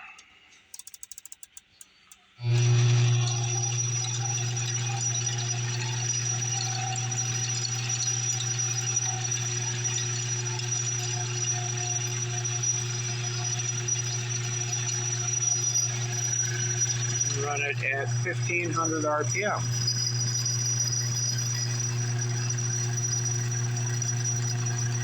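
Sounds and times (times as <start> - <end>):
metal lathe humming and whining: 2.4 - 25.0.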